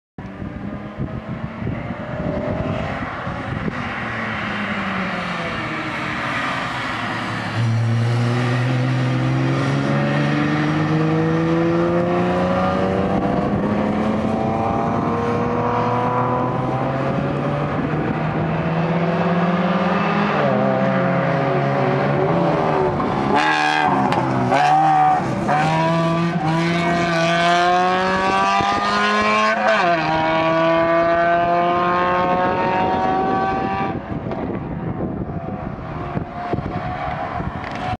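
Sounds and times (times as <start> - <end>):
race car engine revving: 0.4 - 38.0.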